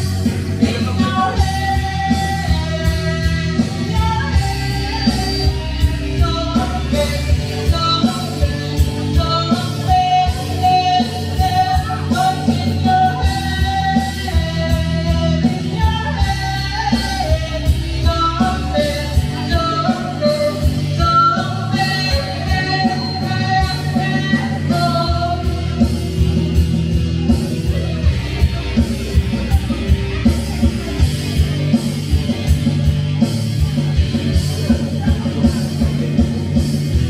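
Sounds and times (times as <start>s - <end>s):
pop-rock song with vocals: 0.0s - 37.0s.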